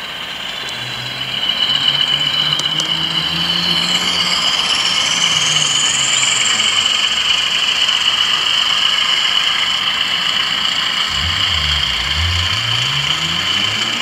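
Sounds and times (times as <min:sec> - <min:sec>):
low engine note: 0:00.0 - 0:14.0
turbocharger whistle: 0:00.0 - 0:14.0.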